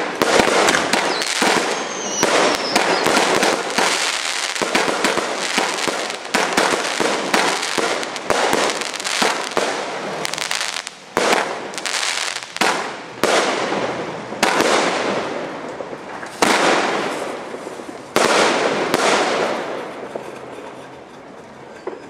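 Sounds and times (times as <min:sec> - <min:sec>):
fireworks exploding: 0:00.0 - 0:20.8.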